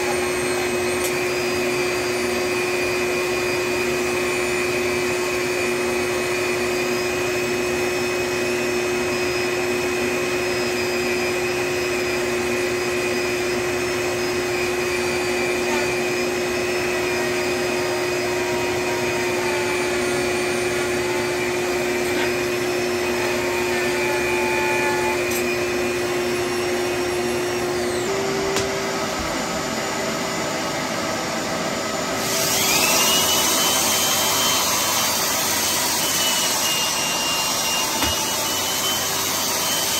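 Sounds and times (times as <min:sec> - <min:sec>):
vacuum motor whining: 0:00.0 - 0:39.9.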